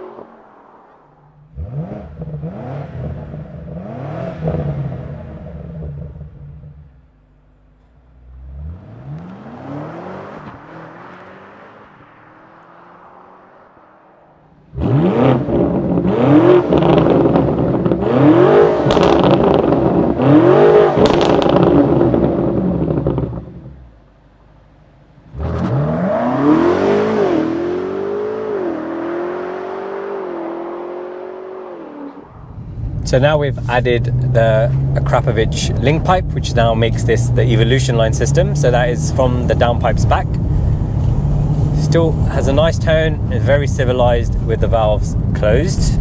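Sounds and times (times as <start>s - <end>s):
car engine revving hard: 0.0s - 6.9s, 8.3s - 13.3s, 14.7s - 23.8s, 25.3s - 46.0s
exhaust crackles: 0.0s - 46.0s.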